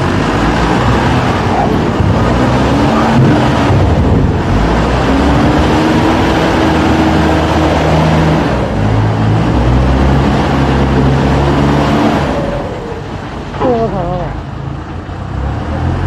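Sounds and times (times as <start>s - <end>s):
loader engine running under load: 0.0s - 16.0s.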